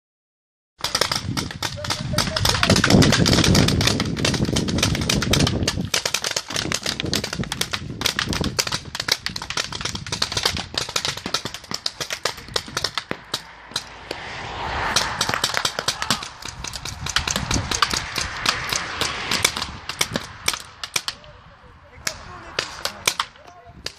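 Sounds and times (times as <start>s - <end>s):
paintball markers firing: 0.8s - 14.2s, 14.9s - 21.2s, 22.0s - 23.9s.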